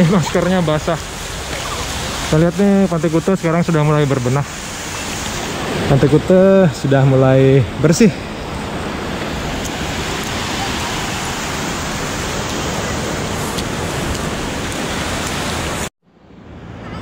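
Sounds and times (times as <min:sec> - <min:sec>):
surf rushing: 0:00.0 - 0:15.9.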